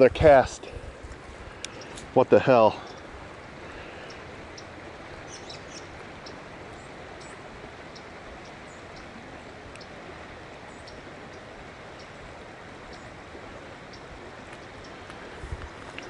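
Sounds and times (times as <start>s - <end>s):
river current rushing: 0.0s - 16.0s
small birds chirping: 1.4s - 10.0s, 10.6s - 16.0s.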